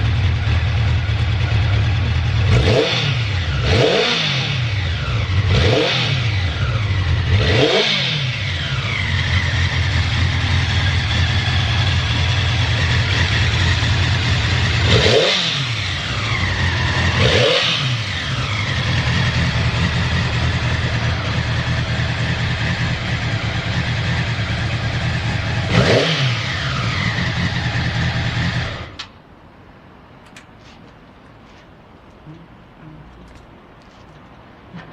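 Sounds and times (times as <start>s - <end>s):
motorcycle engine idling and revving: 0.0s - 29.2s.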